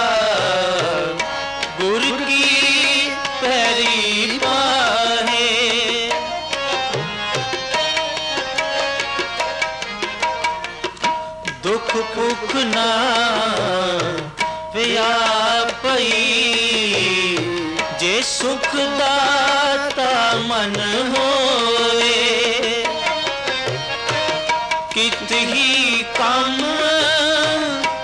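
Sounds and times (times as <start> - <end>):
man singing: 0.0 - 8.7, 11.5 - 28.0
harmonium held notes: 0.0 - 28.0.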